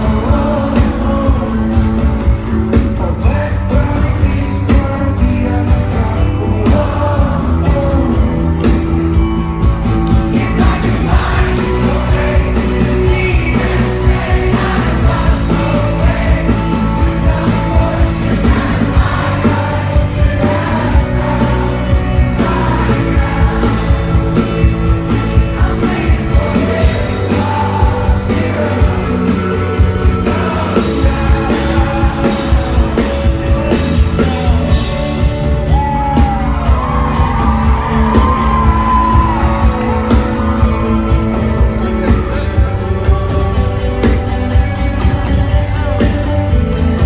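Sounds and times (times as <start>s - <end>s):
person singing lead vocal: 0.0s - 9.0s, 10.1s - 43.5s
live rock band: 0.0s - 47.0s
steady drum beat: 0.0s - 47.0s.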